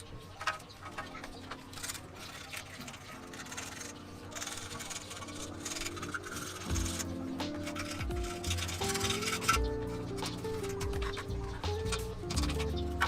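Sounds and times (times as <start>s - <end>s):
scraping metal over metal: 0.0s - 13.0s.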